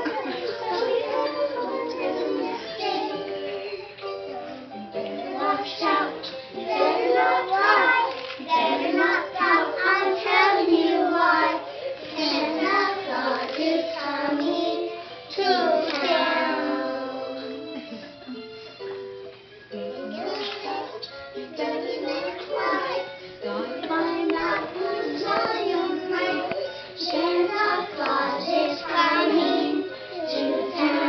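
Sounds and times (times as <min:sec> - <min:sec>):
children singing together: 0:00.0 - 0:17.9, 0:19.7 - 0:31.0.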